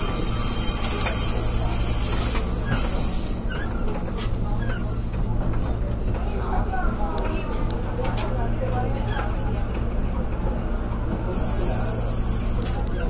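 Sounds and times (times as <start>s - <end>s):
railcar engine and rail rumble: 0.0s - 13.0s.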